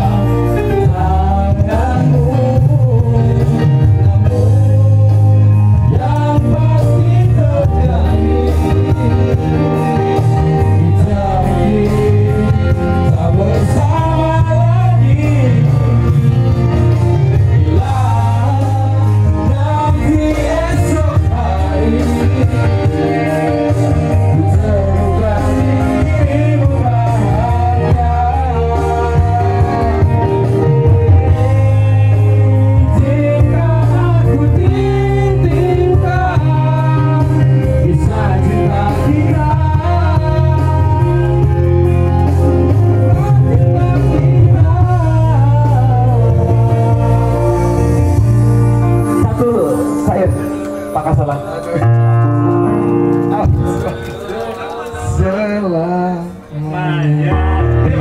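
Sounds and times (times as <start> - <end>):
men singing into microphones: 0.0 - 50.9, 53.4 - 58.0
electronic keyboard with bass: 0.0 - 58.0.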